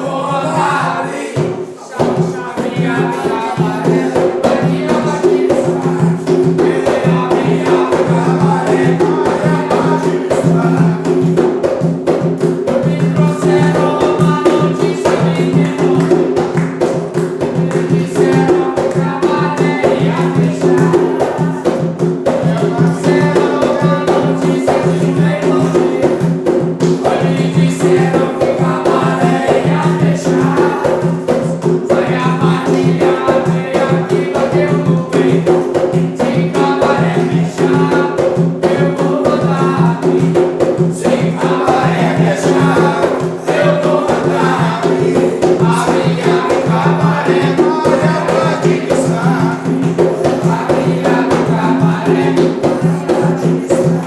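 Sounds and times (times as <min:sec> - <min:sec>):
group singing: 0:00.0 - 0:54.0
hand percussion and rattles: 0:00.0 - 0:54.0.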